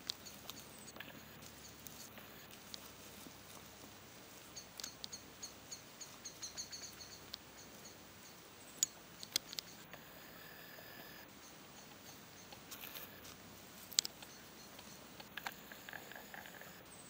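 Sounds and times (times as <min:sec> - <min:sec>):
grass being chewed: 0:00.0 - 0:11.2, 0:11.8 - 0:16.9
faint high rapid chirps: 0:00.0 - 0:17.0.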